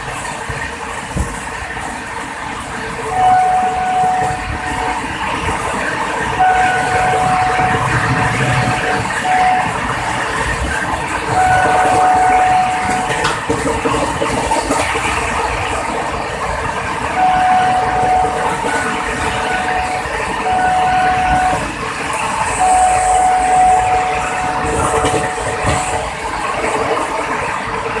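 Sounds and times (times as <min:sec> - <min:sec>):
train wheels rumbling on track: 0:00.0 - 0:28.0
high whine: 0:03.0 - 0:13.9, 0:14.8 - 0:28.0.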